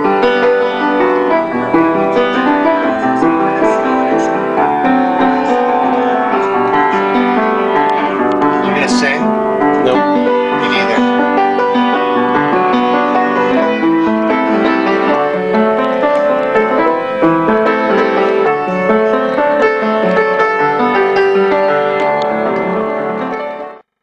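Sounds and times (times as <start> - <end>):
piano playing chords: 0.0 - 24.0.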